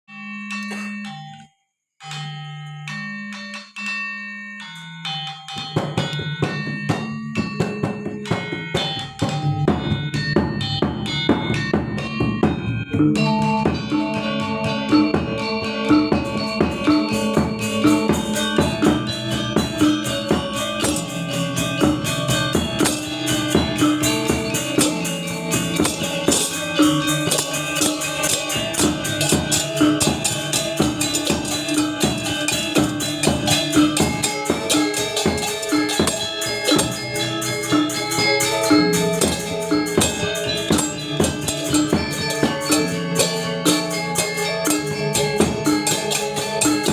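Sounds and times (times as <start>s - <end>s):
percussion: 0.0s - 46.9s
gamelan ensemble playing: 0.5s - 1.4s, 4.6s - 46.9s.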